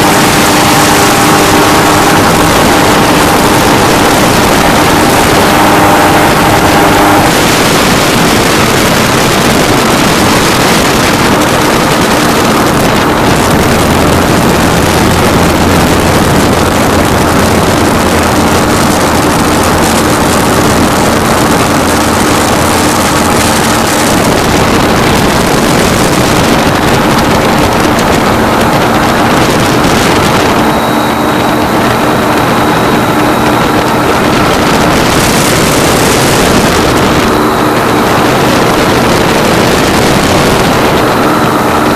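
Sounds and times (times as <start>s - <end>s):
propeller engine running: 0.0s - 41.9s
wind rushing over microphone: 0.0s - 41.9s.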